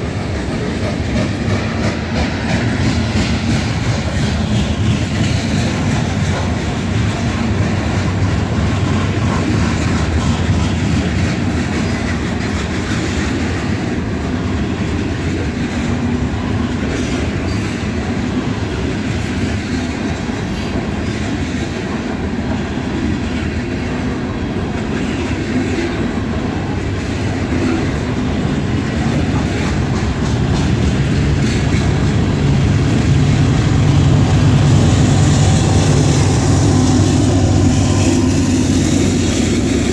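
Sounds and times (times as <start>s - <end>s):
diesel locomotive engine drone: 0.0s - 39.9s
freight train rumbling past: 0.0s - 39.9s
wheels clacking over rail joints: 0.0s - 39.9s.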